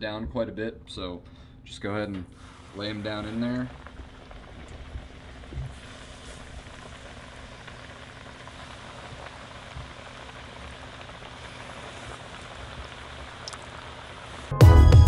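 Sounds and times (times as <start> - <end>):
oil sizzling and bubbling: 2.3 - 15.0.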